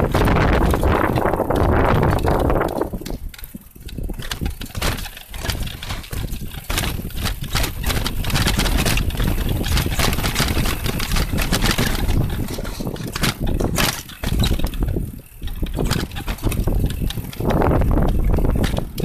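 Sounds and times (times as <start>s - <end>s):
mountain bike rattling over dirt: 0.0s - 19.0s
tyres rumbling on ground: 0.0s - 19.0s.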